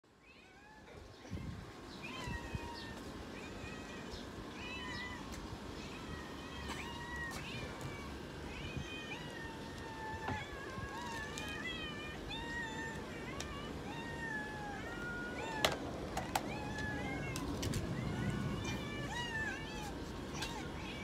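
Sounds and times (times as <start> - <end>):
cats meowing: 0.1 - 21.0.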